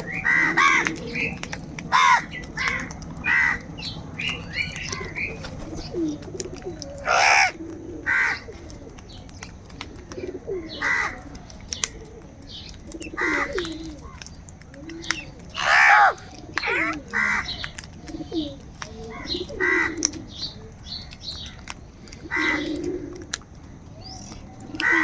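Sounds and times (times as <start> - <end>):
crows cawing: 0.0 - 9.2, 9.8 - 12.1, 12.9 - 20.4, 21.0 - 25.0.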